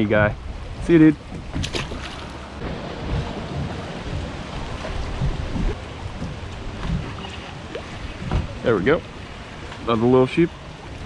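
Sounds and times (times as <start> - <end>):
wind buffeting microphone: 0.0 - 10.0
water lapping against boat hull: 0.0 - 11.0.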